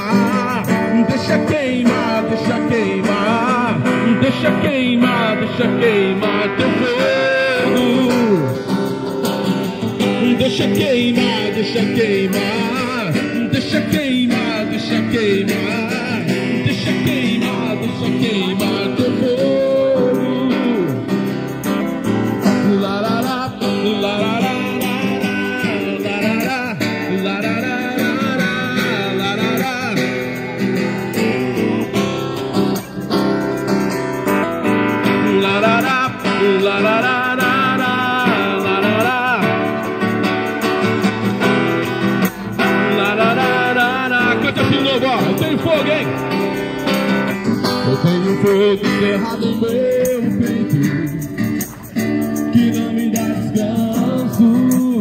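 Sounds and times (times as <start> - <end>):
man singing through loudspeaker: 0.0 - 21.4, 22.0 - 32.4, 34.6 - 55.0
strummed acoustic guitar: 0.0 - 55.0.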